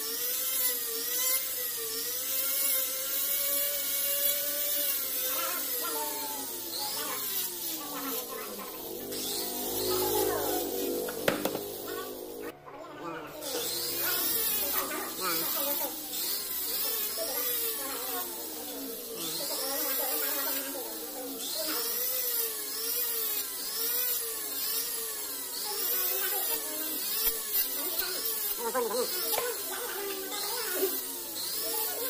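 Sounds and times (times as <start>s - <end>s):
rotary tool whining: 0.0s - 32.0s.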